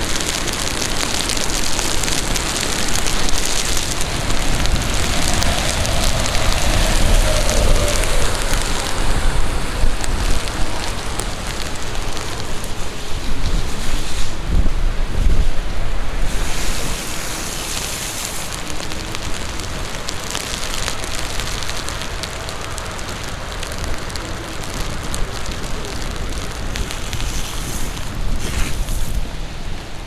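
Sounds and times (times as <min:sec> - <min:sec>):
heavy rain hiss: 0:00.0 - 0:30.0
raindrop ticks: 0:00.0 - 0:30.0
wind buffeting microphone: 0:00.0 - 0:30.0.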